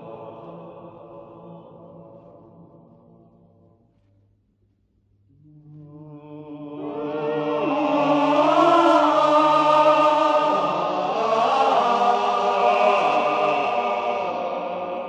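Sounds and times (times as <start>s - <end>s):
choir singing held chords: 0.0s - 3.2s, 5.8s - 15.0s.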